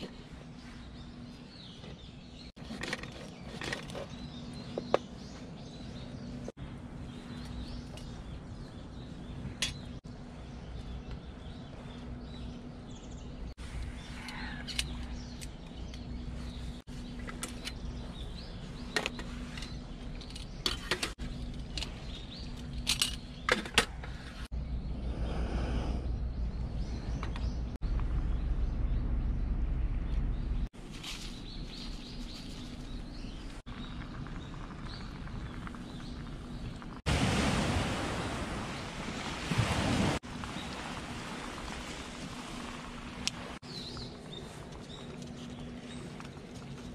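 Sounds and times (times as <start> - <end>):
low outdoor background: 0.0 - 46.9.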